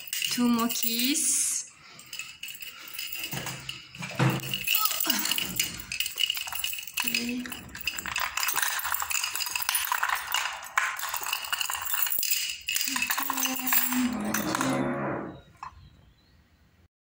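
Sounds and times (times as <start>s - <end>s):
metal keys jingling: 0.0s - 15.9s.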